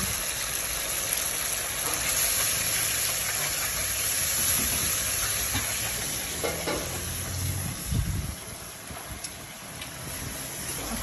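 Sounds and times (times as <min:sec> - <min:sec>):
sauce simmering with hiss: 0:00.0 - 0:11.0.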